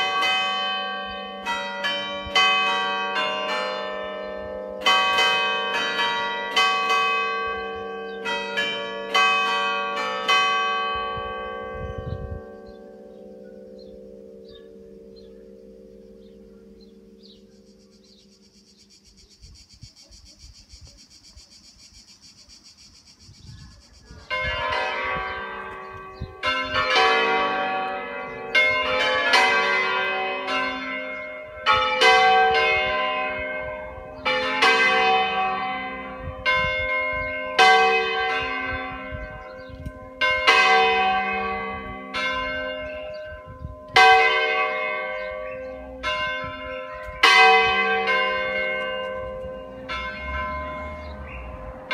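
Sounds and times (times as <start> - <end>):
church bells ringing: 0.0 - 18.4, 24.1 - 51.9.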